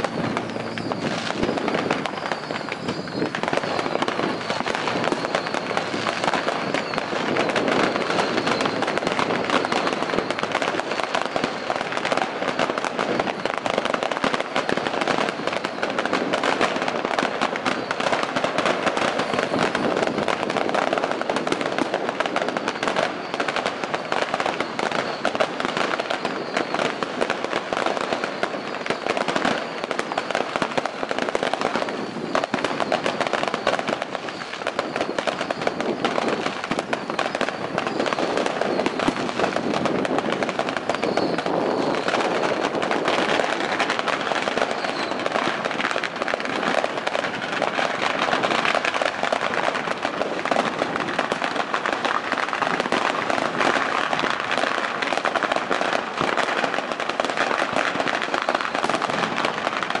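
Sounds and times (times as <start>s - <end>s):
firecrackers crackling: 0.0s - 60.0s.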